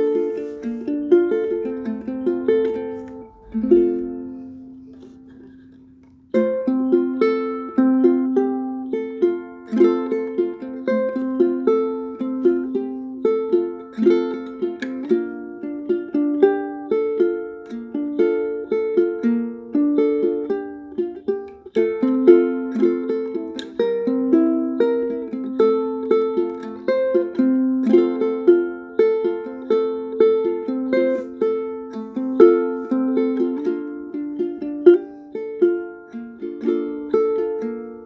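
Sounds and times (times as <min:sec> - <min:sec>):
fingerstyle ukulele playing: 0:00.0 - 0:38.0.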